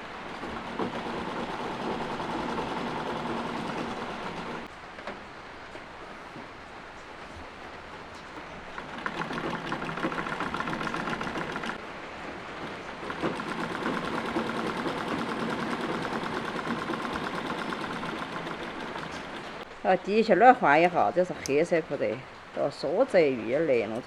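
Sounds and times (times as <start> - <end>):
treadle sewing machine clatter: 0.0 - 19.7.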